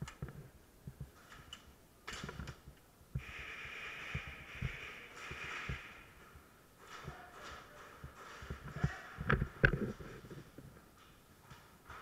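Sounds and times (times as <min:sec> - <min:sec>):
soft footsteps and gear movement: 0:00.1 - 0:12.0.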